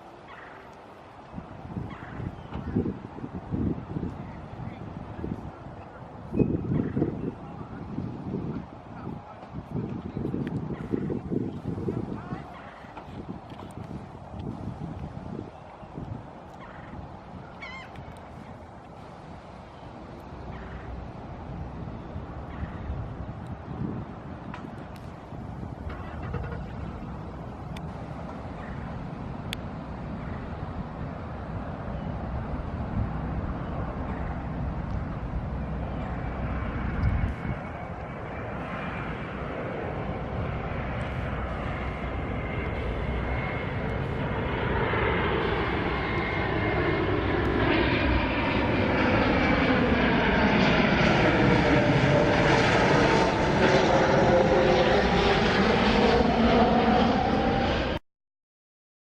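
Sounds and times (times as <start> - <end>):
jet airliner passing overhead: 0.0 - 58.0.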